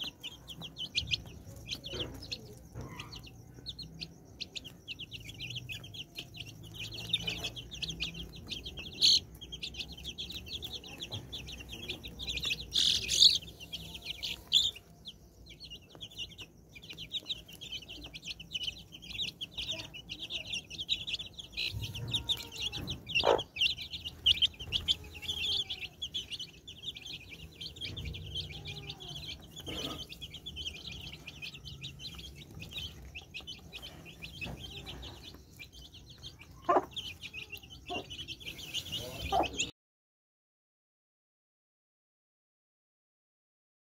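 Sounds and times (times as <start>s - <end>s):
hen clucking: 0.0s - 15.2s, 17.1s - 39.7s
chicks peeping: 0.0s - 39.7s.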